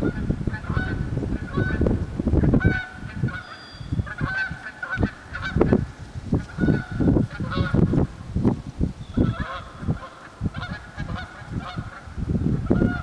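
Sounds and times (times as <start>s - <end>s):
geese honking: 0.0s - 8.1s, 9.1s - 13.0s.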